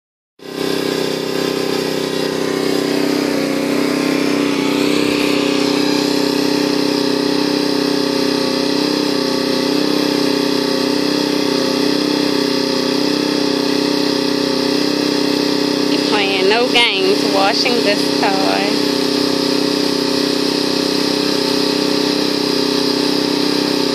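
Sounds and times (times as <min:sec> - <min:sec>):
small gasoline engine running: 0:00.4 - 0:23.9.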